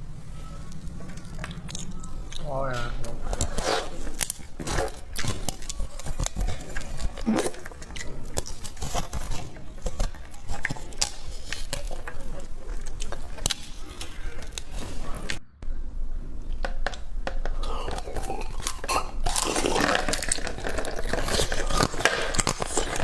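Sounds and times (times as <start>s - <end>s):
ice crunching between teeth: 0.6s - 15.4s, 17.6s - 23.0s.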